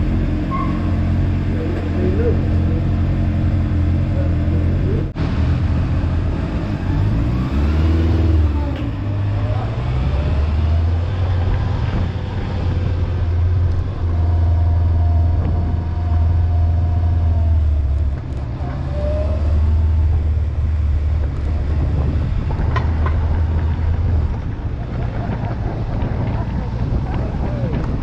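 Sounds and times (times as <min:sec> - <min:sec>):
motorcycle engine and road drone: 0:00.0 - 0:28.0.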